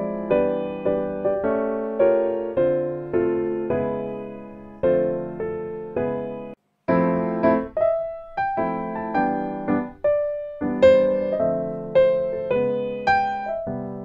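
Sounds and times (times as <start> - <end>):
piano-like keyboard melody: 0.0 - 14.0.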